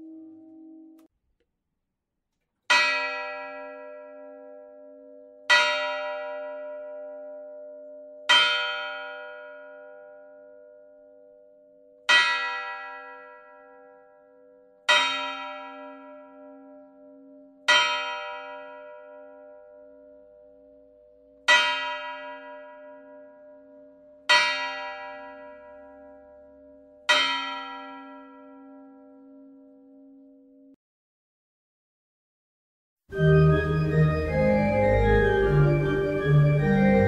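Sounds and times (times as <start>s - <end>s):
church bell ringing: 2.7s - 30.3s, 33.1s - 37.0s.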